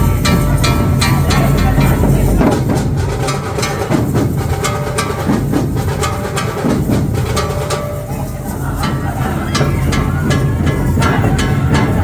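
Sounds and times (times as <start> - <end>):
dhol drums beating: 0.0 - 12.0.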